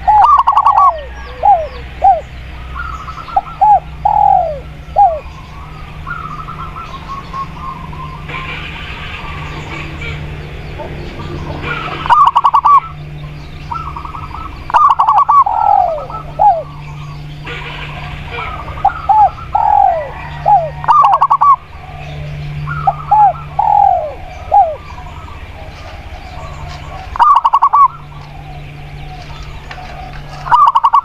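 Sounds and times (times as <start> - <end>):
steady low hum: 0.0 - 30.6
doves cooing: 0.0 - 31.0.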